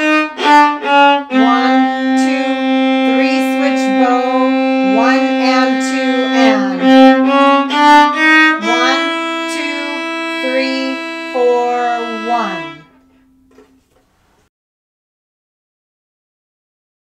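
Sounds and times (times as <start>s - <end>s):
bowed viola: 0.0s - 13.8s.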